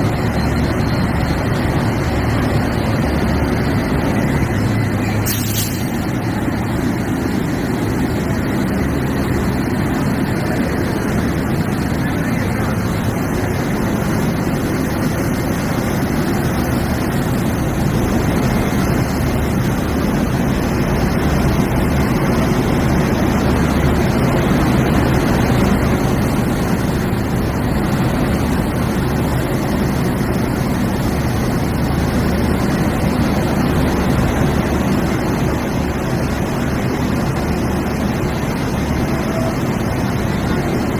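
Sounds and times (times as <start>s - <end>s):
locomotive running: 0.0s - 40.9s.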